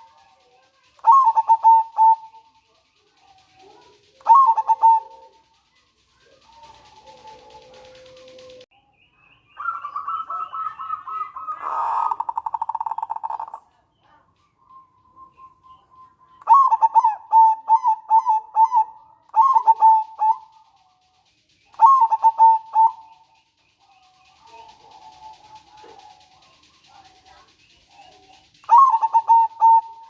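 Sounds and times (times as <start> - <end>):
dove cooing with buzzy trill: 0.0 - 8.7, 9.6 - 13.6, 16.4 - 21.0, 21.6 - 30.0.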